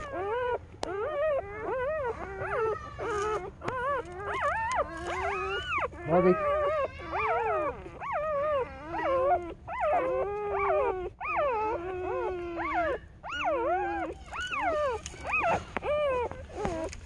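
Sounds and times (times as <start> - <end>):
puppies whining: 0.0 - 17.0.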